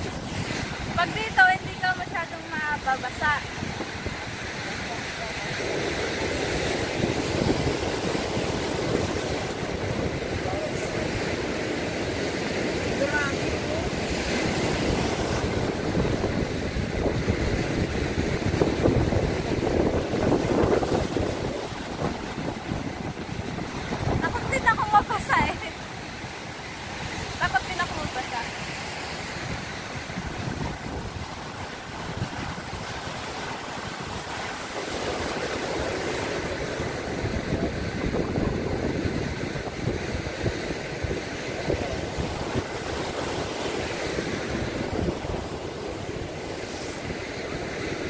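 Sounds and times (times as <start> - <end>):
surf breaking on shore: 0.0 - 48.0
wind buffeting microphone: 0.0 - 48.0.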